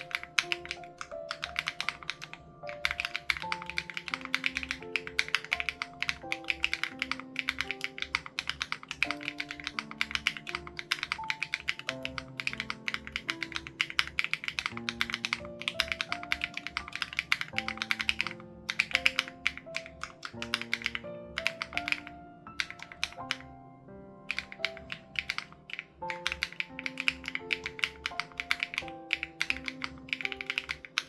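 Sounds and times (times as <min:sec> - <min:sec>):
mechanical keyboard key clacks: 0:00.0 - 0:23.5, 0:24.3 - 0:31.0
soft background music: 0:00.0 - 0:31.0.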